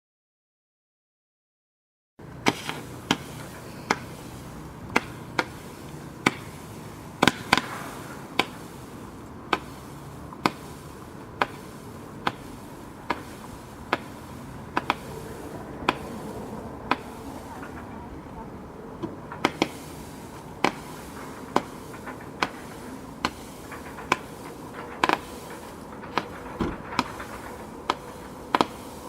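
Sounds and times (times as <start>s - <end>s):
firework bangs: 2.2s - 29.0s.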